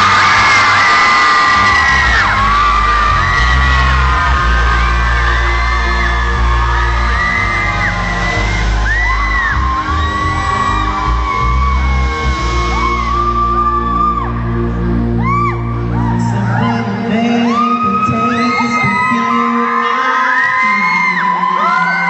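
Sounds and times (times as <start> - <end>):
audience screaming and whooping: 0.0 - 22.0
loud live pop music: 0.0 - 22.0.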